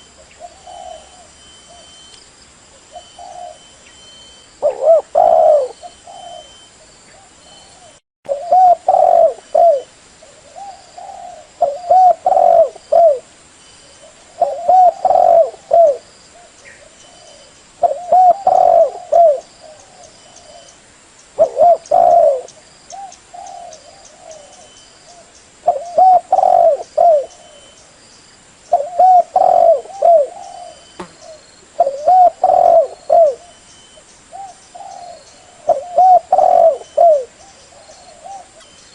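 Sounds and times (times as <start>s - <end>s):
dove cooing: 0.0s - 2.0s, 2.9s - 3.9s, 4.6s - 13.3s, 13.9s - 20.8s, 21.4s - 27.8s, 28.7s - 38.9s.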